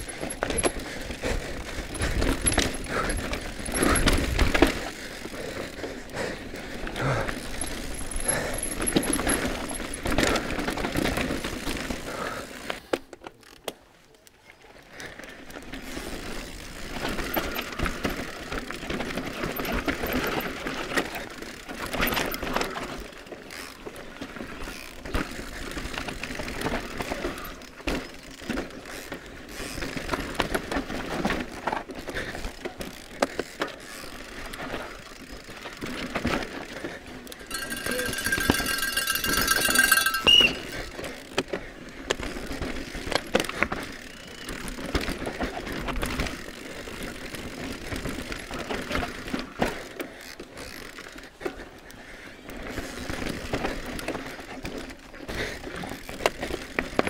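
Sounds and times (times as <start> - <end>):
bike rattling and knocking: 0.0 - 13.8, 15.0 - 57.0
bike tyres on dirt and roots: 0.0 - 57.0.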